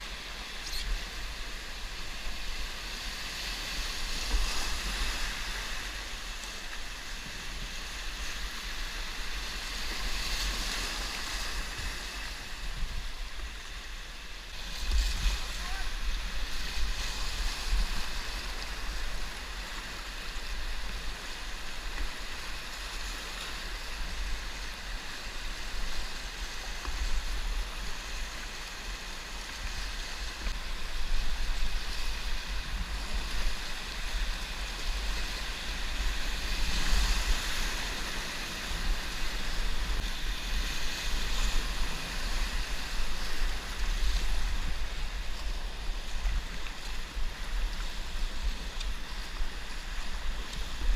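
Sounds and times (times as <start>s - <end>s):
wind rumble on microphone: 0.0s - 50.9s.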